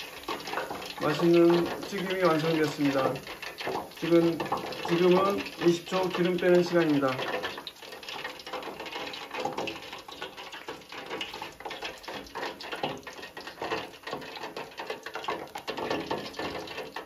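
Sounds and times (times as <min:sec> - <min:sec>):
fried chicken crackling in oil: 0:00.0 - 0:17.0.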